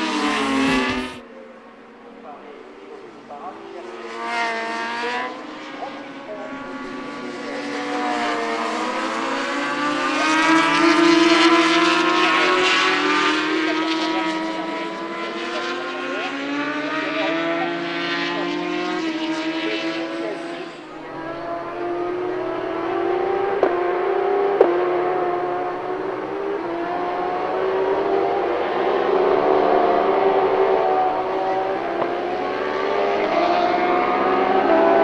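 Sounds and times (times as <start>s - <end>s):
motorcycle engines revving past: 0.0s - 35.0s.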